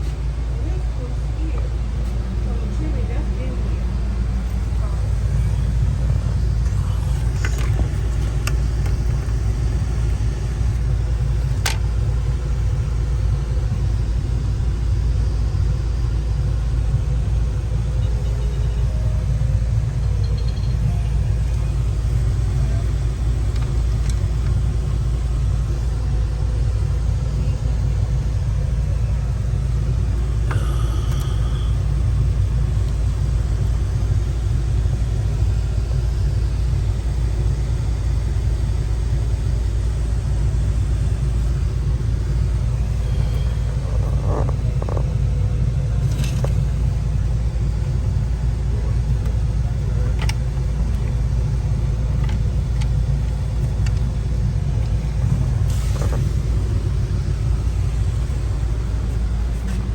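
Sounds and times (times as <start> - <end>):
gas furnace rumbling: 0.0 - 59.9.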